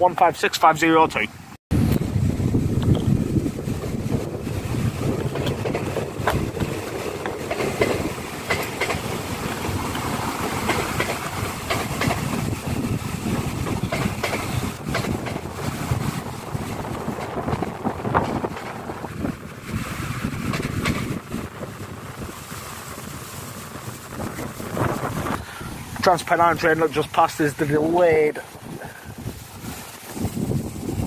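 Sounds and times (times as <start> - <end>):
wind buffeting microphone: 1.4 - 31.0
electric train running past: 1.8 - 31.0.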